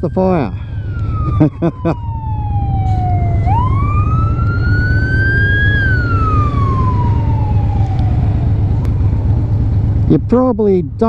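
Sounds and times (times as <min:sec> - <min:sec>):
emergency vehicle siren wailing: 0:00.0 - 0:10.0
motorcycle rumbling: 0:00.0 - 0:11.0.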